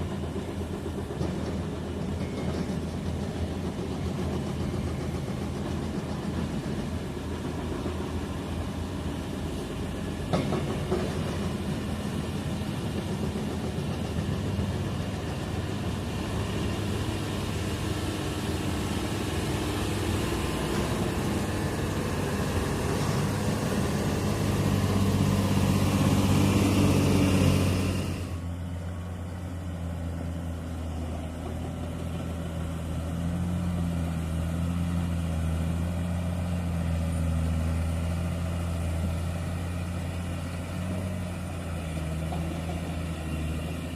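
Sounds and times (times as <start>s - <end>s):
heavy vehicle engine running: 0.0s - 43.9s.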